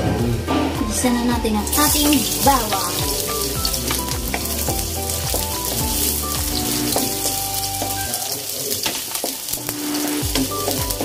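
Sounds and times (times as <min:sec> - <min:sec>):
background music: 0:00.0 - 0:11.0
garlic sizzling in oil: 0:01.7 - 0:11.0.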